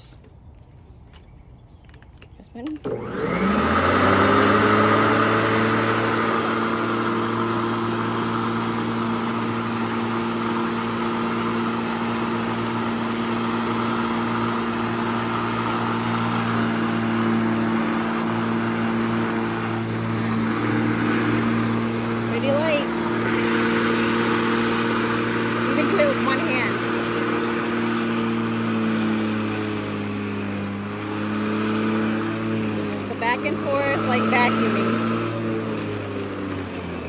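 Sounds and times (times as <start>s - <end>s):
electric lawnmower motor humming: 1.8s - 37.0s.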